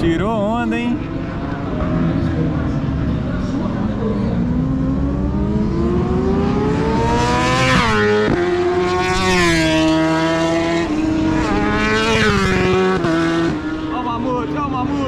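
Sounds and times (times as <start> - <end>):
motorcycles accelerating past: 1.0 - 15.0.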